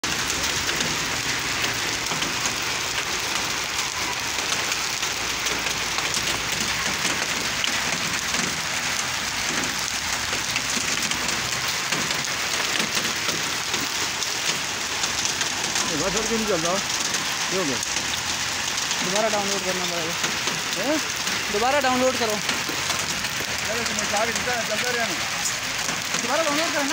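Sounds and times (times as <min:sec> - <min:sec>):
heavy rain on hard surfaces: 0:00.0 - 0:26.9.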